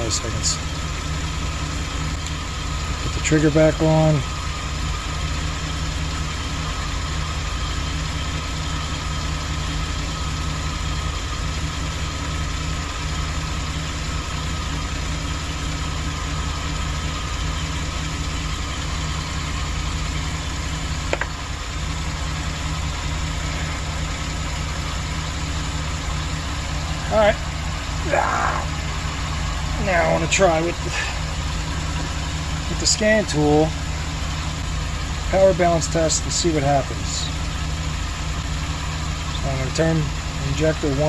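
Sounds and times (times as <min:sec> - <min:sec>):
van engine idling: 0:00.0 - 0:41.0.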